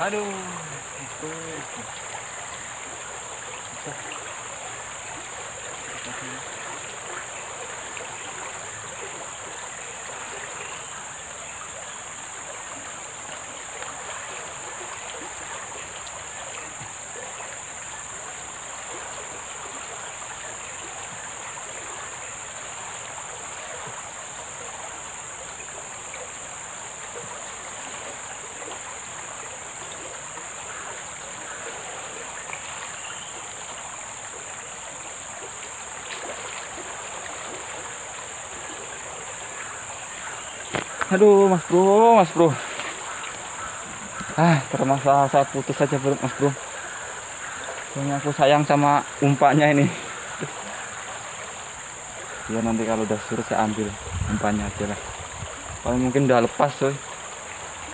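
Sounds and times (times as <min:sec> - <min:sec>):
river water flowing: 0:00.0 - 0:57.9.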